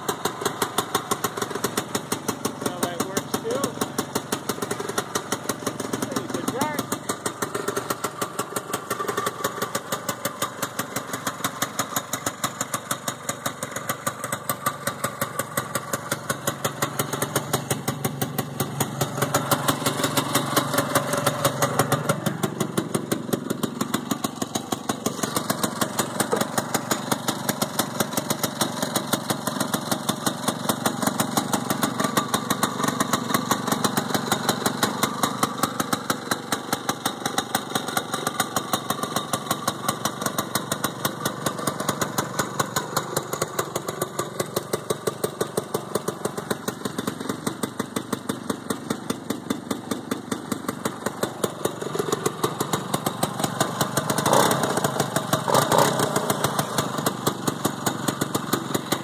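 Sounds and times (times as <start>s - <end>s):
snowmobile engine idling: 0.0s - 59.0s.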